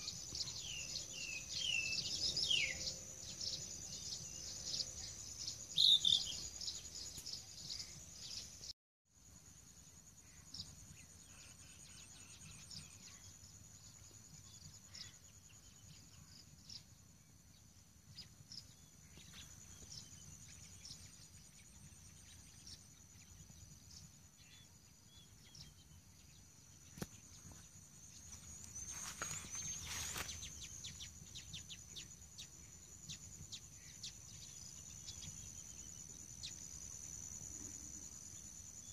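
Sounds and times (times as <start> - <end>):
bird chirp: 0.0 - 8.7, 9.9 - 38.9
insects droning: 0.0 - 38.9.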